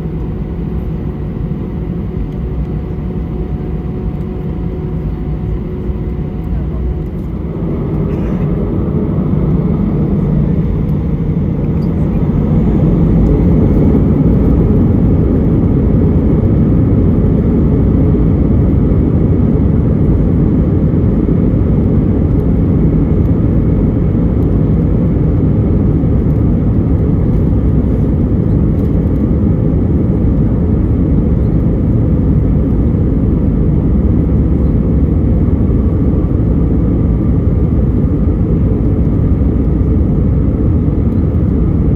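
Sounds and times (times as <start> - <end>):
jet engines roaring in cabin: 0.0 - 41.9.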